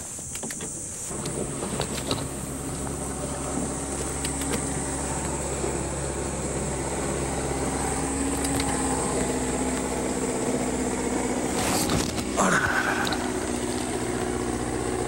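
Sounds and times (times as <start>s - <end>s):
boat motor humming: 0.7s - 15.0s.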